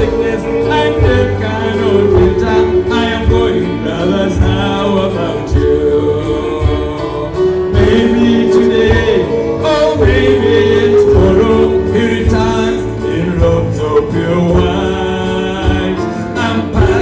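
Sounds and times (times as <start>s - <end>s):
choir singing a hymn: 0.0s - 17.0s
instrumental backing with low beat: 0.0s - 17.0s.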